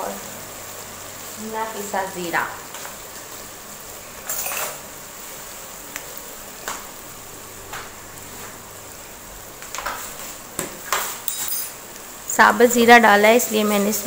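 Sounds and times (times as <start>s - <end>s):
masala sizzling in oil: 0.0s - 14.0s.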